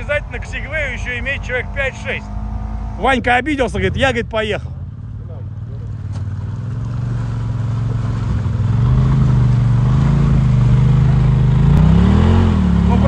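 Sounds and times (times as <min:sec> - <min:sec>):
quad bike engine revving: 0:00.0 - 0:04.2, 0:05.2 - 0:13.0.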